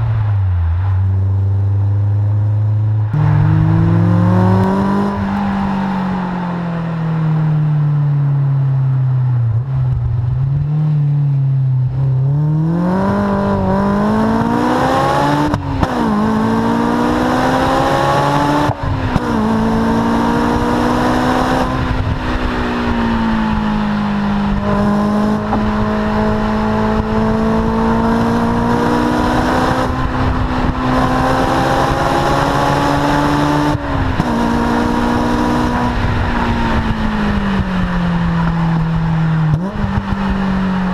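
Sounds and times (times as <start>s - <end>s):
car engine revving through gears: 3.1s - 7.0s, 11.9s - 40.9s.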